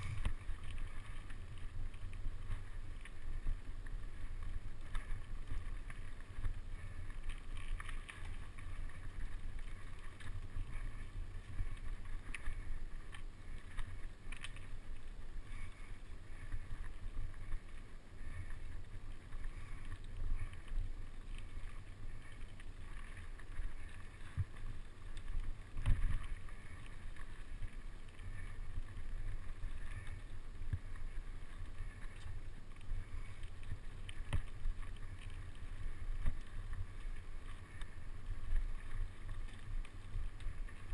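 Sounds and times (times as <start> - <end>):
wind and ground rumble: 0.0 - 40.9.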